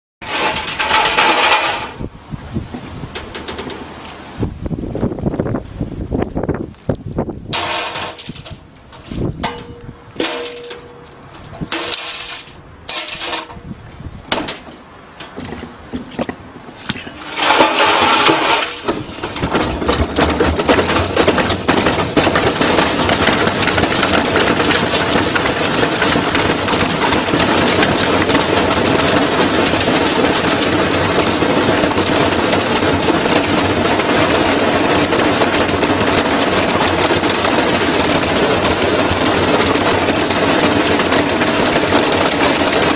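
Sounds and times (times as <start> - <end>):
knocks and clatters: 0.2 - 3.9, 7.5 - 13.7, 14.3 - 42.9
washing machine rattling and banging: 0.2 - 5.6, 7.5 - 13.7, 14.3 - 42.9.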